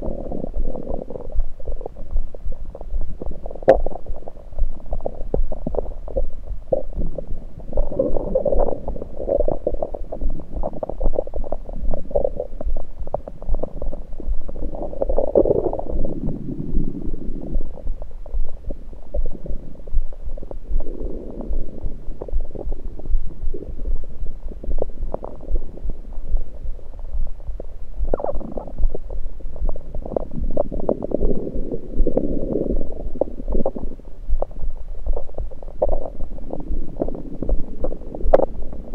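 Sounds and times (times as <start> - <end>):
constant low rumble: 0.0 - 38.9
stomach gurgling and rumbling: 0.0 - 38.9.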